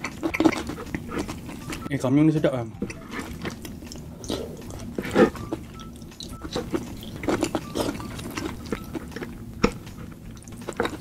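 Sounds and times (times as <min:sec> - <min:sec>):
chewing: 0:00.0 - 0:01.9, 0:02.9 - 0:11.0.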